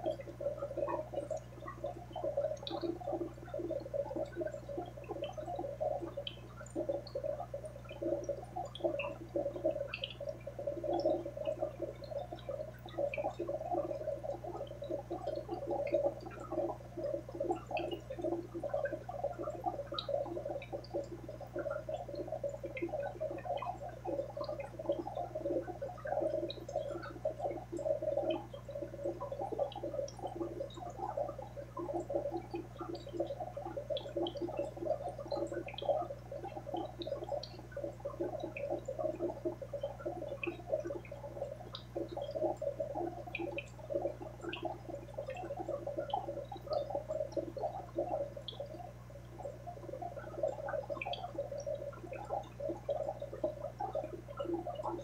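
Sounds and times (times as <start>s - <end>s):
aquarium water bubbling: 0.0s - 55.0s.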